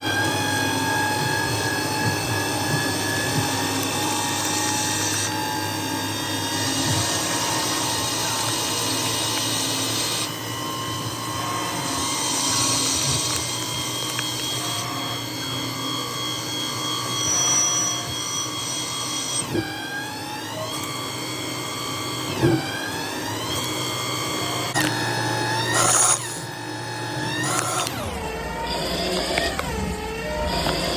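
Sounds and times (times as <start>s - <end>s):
lathe cutting with whining tones: 0.0s - 30.9s.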